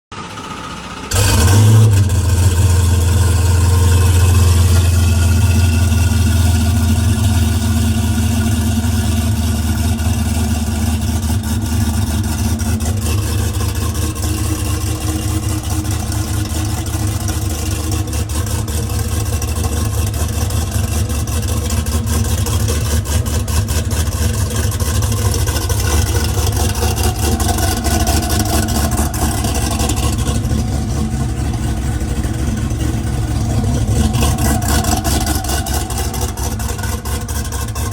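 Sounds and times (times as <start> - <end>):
car engine high idle: 0.1 - 37.9.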